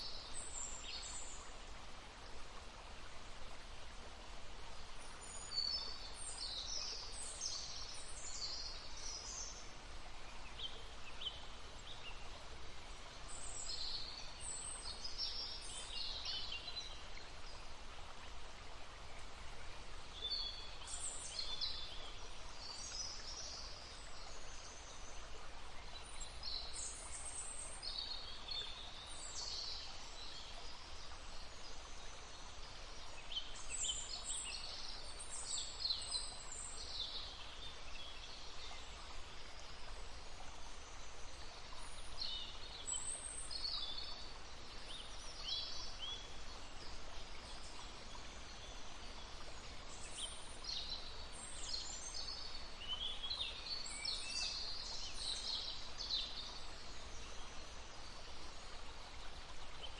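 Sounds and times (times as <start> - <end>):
babbling stream: 0.0 - 59.9
songbirds chirping: 0.0 - 59.9.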